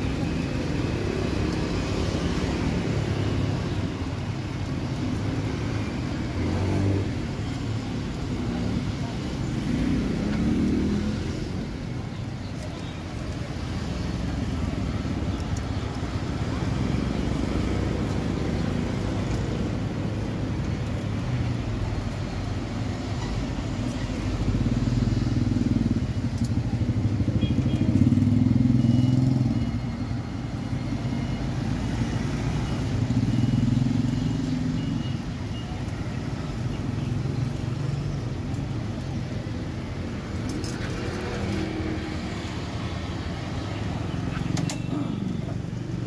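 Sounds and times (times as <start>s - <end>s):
passing cars and motorbikes: 0.0s - 46.0s.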